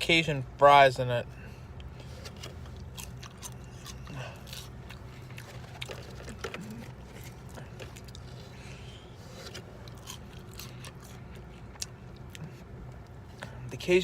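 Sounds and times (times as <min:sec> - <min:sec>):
steady low hum: 0:00.0 - 0:14.0
person chewing crunchy fries: 0:01.8 - 0:13.6.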